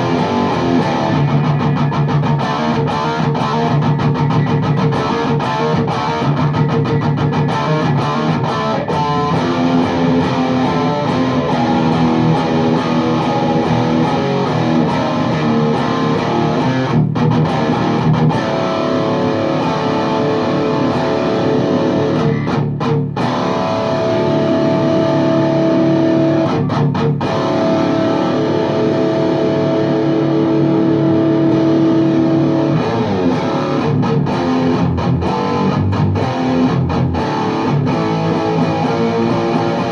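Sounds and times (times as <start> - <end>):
distorted electric guitar riffs: 0.0 - 39.9.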